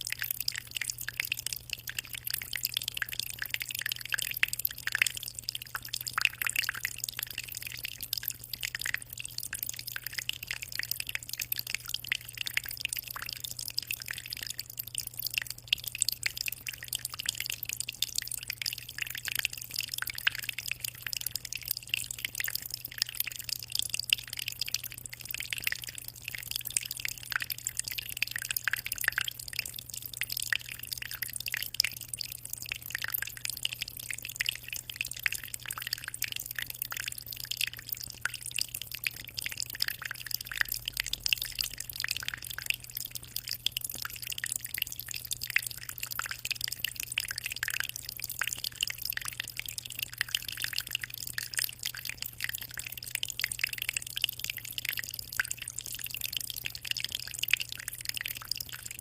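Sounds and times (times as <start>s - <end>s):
aquarium water trickling and splashing: 0.0s - 59.0s.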